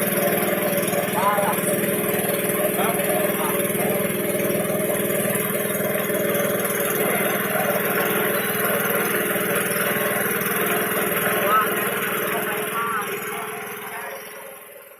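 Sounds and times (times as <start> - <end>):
small engine running steadily: 0.0 - 14.9.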